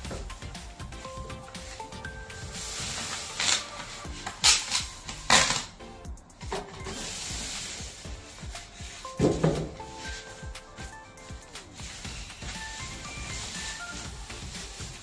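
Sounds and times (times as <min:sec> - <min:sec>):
quiet background music: 0:00.0 - 0:15.0
foam rubbing: 0:00.8 - 0:04.8, 0:06.8 - 0:15.0.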